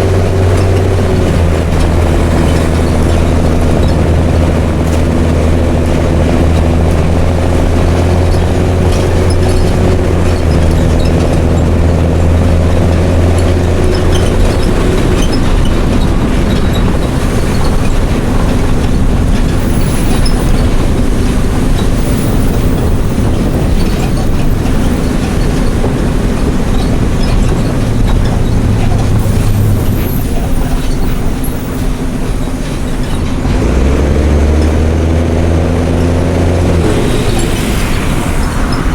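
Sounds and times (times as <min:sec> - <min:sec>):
bus diesel engine pulling: 0:00.0 - 0:38.9
road and body noise: 0:00.0 - 0:38.9.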